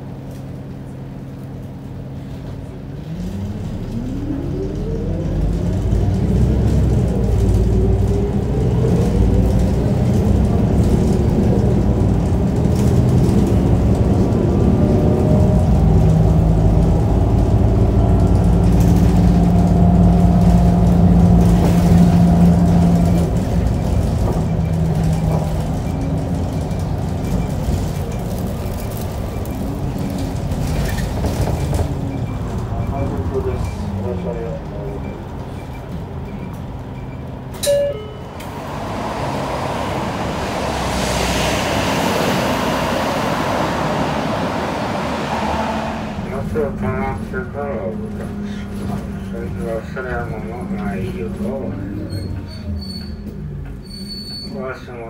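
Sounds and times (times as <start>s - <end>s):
bus diesel engine revving: 2.6s - 37.5s, 38.2s - 53.8s.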